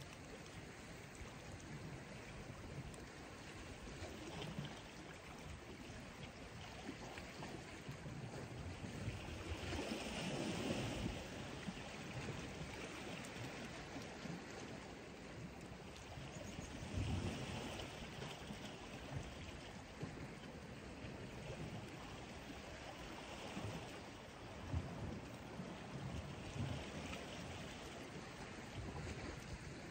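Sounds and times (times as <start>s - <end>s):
sea water washing against rocks: 0.0s - 15.8s, 16.4s - 29.9s.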